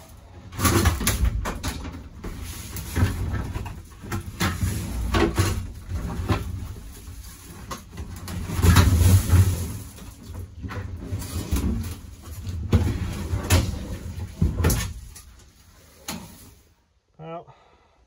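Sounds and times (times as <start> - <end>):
rustling scraping and knocks of panel: 0.0 - 16.8.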